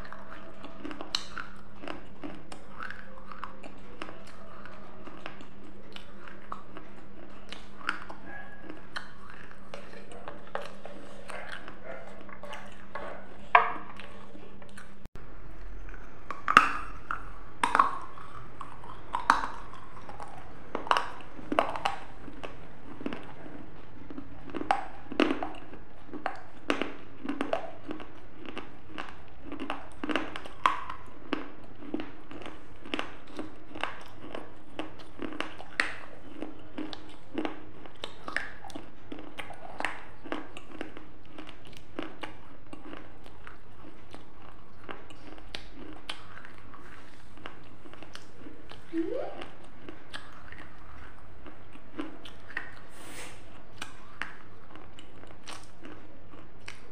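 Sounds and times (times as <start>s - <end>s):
person chewing crunchy food: 0.0s - 56.9s
wet mouth clicks: 0.0s - 56.9s.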